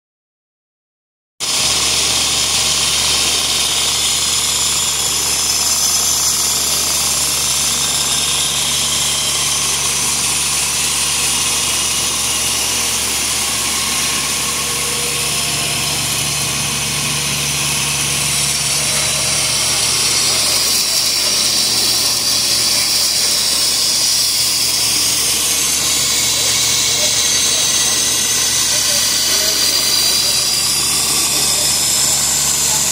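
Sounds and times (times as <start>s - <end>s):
low machine hum: 1.6s - 32.9s.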